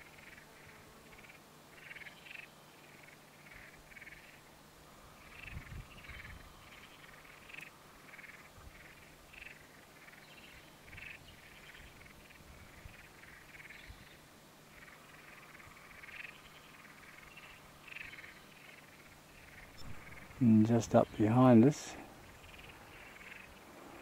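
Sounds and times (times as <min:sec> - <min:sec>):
frogs chirping: 0:00.0 - 0:24.0.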